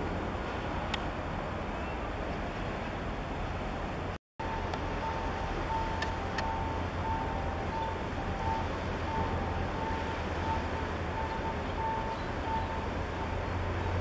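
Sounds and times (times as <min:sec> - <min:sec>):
distant engines: 0:00.0 - 0:14.0.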